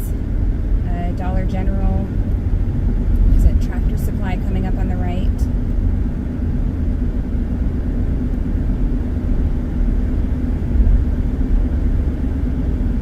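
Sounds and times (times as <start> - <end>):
car engine at highway speed: 0.0 - 13.0
constant hum: 0.0 - 13.0.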